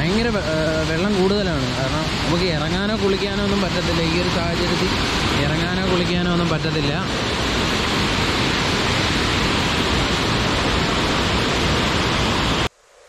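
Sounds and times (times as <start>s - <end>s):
waterfall and river rushing: 0.0s - 12.7s.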